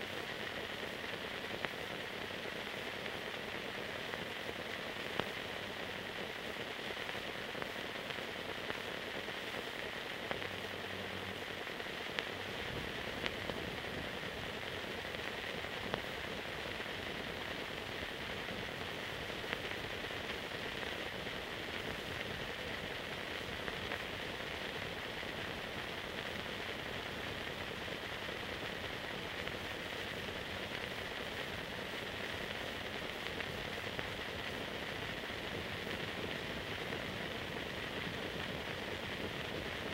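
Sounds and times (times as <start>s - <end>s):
film hiss: 0.0s - 39.9s.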